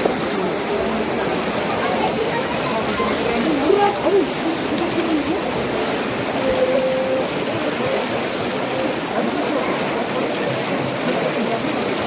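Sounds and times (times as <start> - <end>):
water splashing around wading legs: 0.0 - 12.0.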